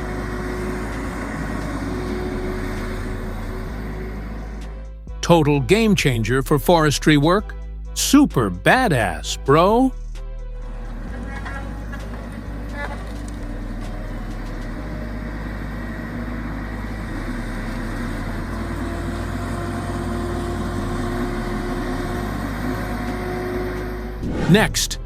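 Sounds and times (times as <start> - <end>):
heavy diesel engine running: 0.0 - 7.4, 10.6 - 25.0.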